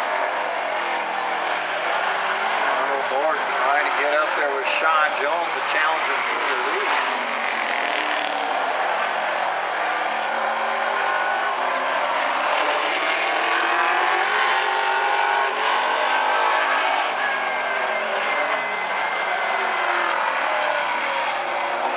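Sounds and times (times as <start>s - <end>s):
race car engines passing: 0.0s - 21.9s.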